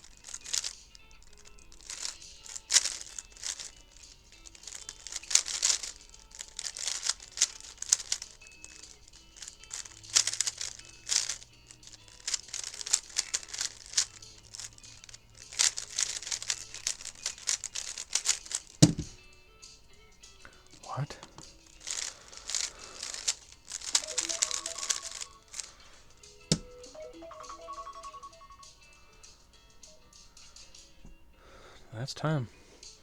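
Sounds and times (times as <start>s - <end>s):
puzzle cube plastic clicking: 0.0s - 19.3s, 20.3s - 28.7s
faint background music: 0.0s - 33.0s.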